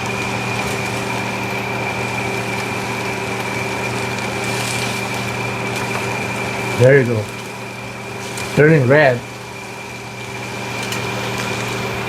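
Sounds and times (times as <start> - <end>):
even hiss: 0.0 - 12.0
high whine: 0.0 - 12.0
mechanical hum: 0.0 - 12.0.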